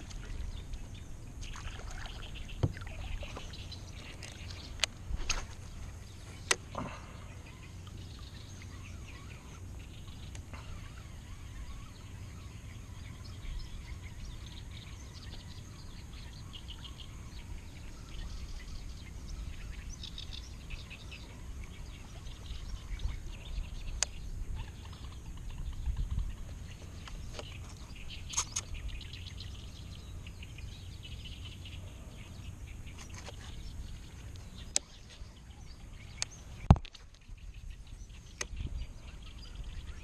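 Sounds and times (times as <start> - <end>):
birds chirping: 0.0 - 40.0
steady low rumble: 0.0 - 40.0.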